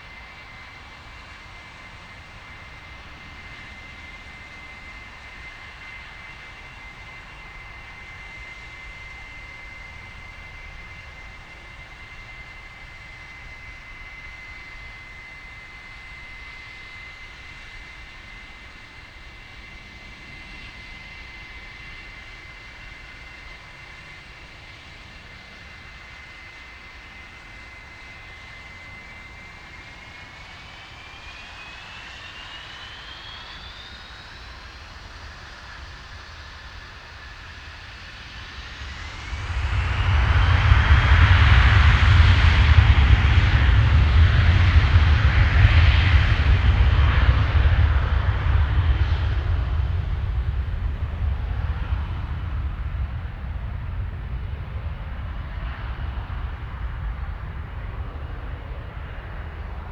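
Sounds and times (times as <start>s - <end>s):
jet engine roar: 0.0s - 59.9s
jet engines whining: 0.0s - 59.9s.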